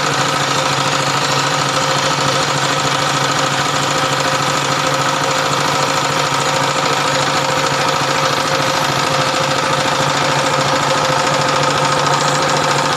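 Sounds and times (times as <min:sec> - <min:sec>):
machine droning: 0:00.0 - 0:12.9.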